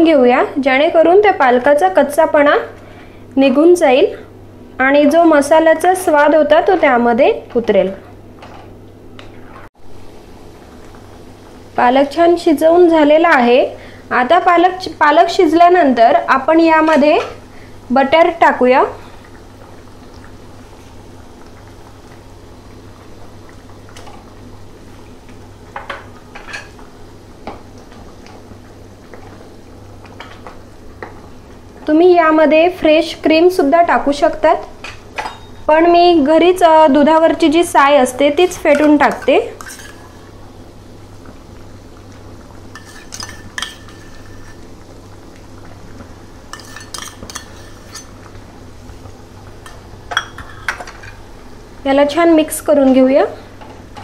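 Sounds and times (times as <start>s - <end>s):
thick puree bubbling in pan: 4.2s - 54.0s.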